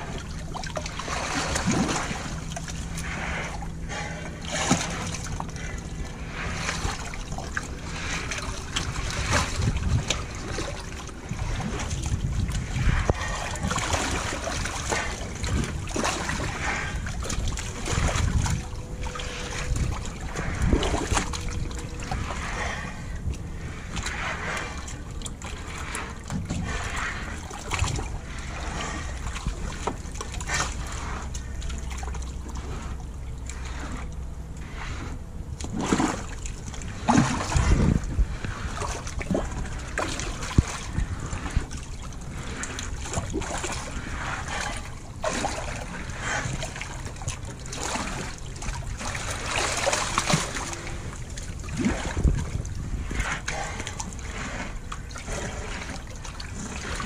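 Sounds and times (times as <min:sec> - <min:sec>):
water splashing and bubbling: 0:00.0 - 0:57.0.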